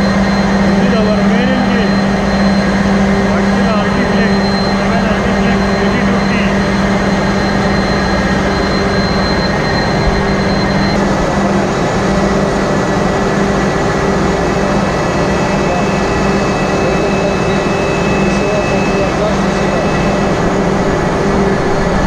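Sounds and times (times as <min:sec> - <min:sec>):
diesel engine machinery noise: 0:00.0 - 0:22.0.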